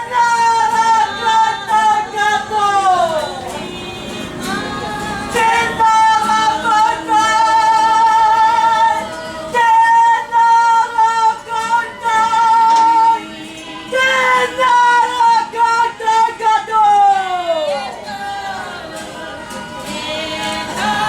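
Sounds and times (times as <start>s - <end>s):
group singing: 0.0s - 21.0s
women singing: 0.0s - 21.0s.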